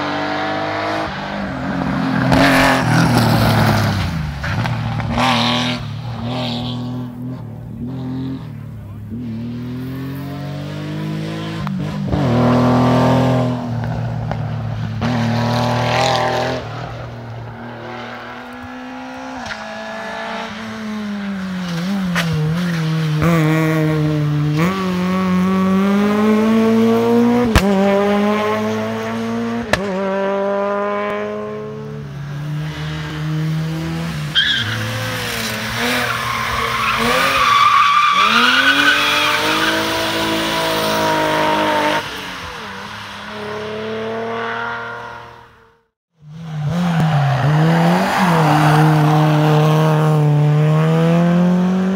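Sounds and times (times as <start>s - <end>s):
rally car engine shifting gears: 0.0s - 45.6s, 46.3s - 51.9s.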